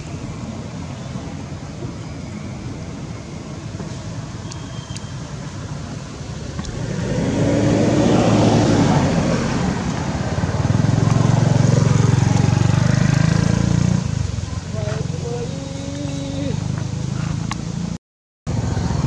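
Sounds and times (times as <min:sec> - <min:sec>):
low steady engine: 0:00.0 - 0:19.0
vehicle engines passing: 0:00.0 - 0:19.0.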